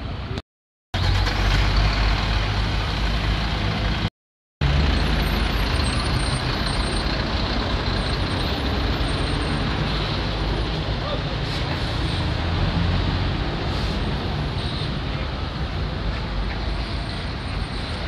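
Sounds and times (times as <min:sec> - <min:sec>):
diesel truck engine rumbling: 0:01.0 - 0:17.8.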